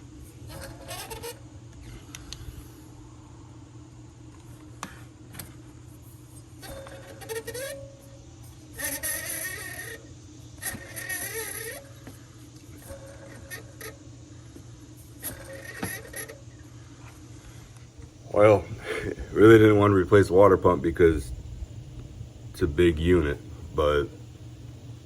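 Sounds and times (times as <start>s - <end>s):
pulley bearing whining: 0.0s - 2.7s, 6.2s - 25.0s.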